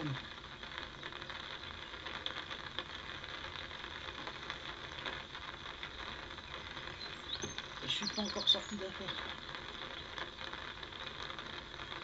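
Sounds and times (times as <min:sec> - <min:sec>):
rain pattering on an umbrella: 0:00.0 - 0:12.0.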